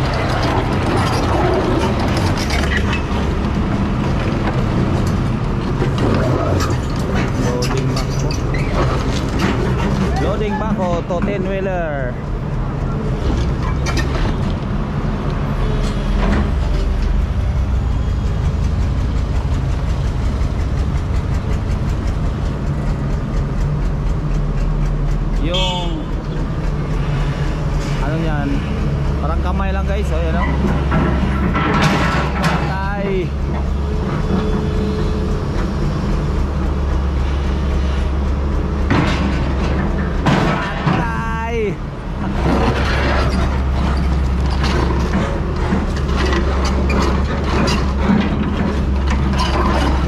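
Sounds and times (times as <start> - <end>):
excavator diesel engine drone: 0.0 - 50.0.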